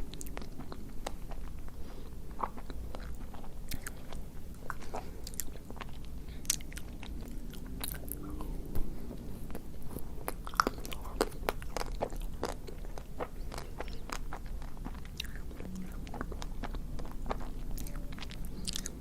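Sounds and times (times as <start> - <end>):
wet chewing: 0.1 - 19.0.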